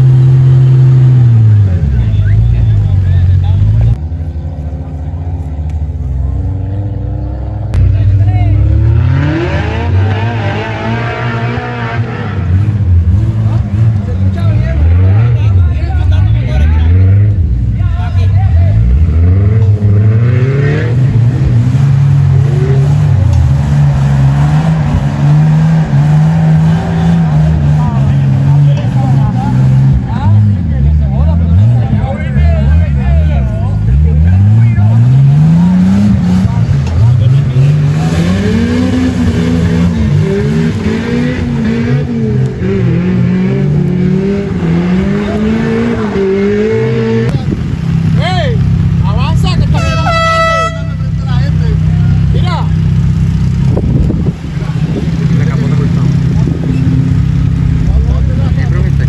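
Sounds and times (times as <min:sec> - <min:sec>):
engine revving: 0:00.0 - 0:59.0.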